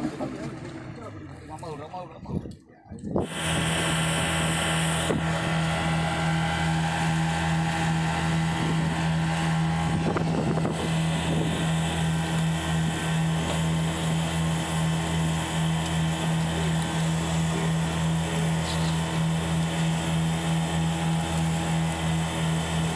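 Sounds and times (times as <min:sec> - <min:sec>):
boat engine droning: 0:00.0 - 0:22.9.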